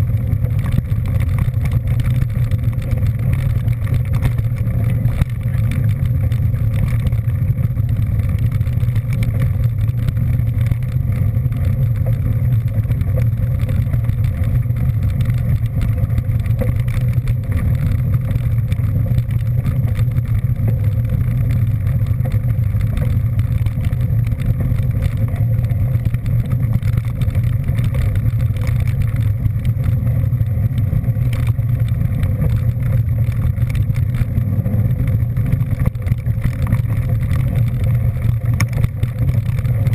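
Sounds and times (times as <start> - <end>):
vehicle rumbling on the move: 0.0 - 39.9.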